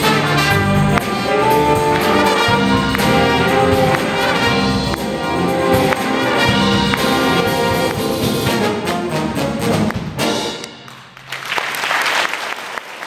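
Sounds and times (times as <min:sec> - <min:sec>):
big band playing funk: 0:00.0 - 0:10.8.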